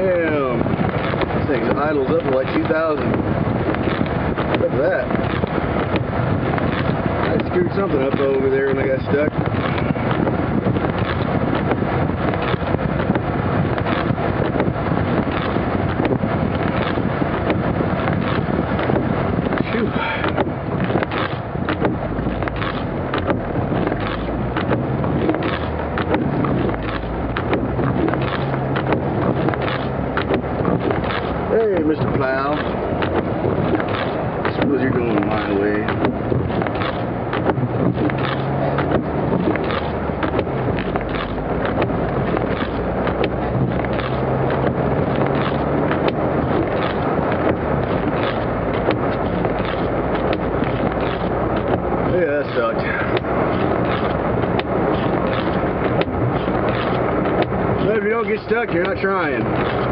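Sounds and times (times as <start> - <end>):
engine low hum: 0.0 - 59.9
snow ticking on windshield: 0.0 - 59.9
wind and blowing snow: 0.0 - 59.9.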